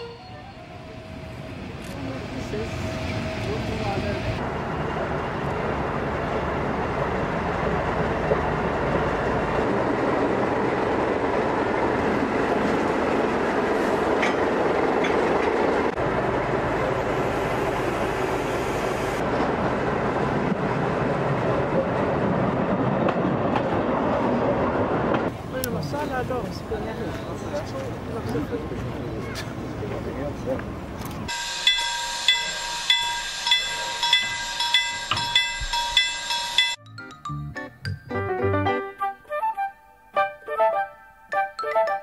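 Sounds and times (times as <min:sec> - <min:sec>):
diesel locomotive engine drone: 0:00.0 - 0:36.8.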